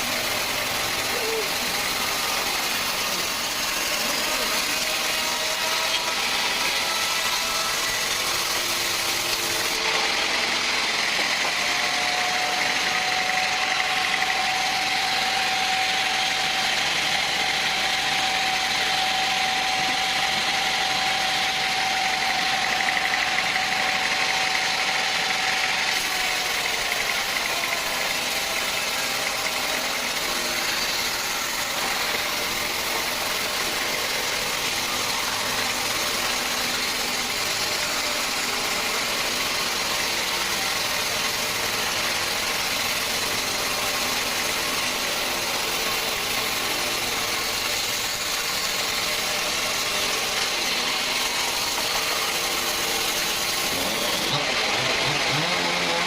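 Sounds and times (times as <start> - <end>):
high machine whine: 0.0 - 56.0
sawmill engine drone: 0.0 - 56.0.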